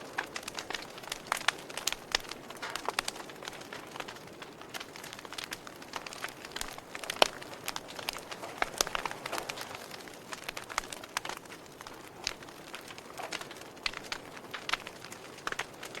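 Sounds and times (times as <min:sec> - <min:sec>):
soft steady hiss: 0:00.0 - 0:16.0
wood fire crackling: 0:00.0 - 0:16.0.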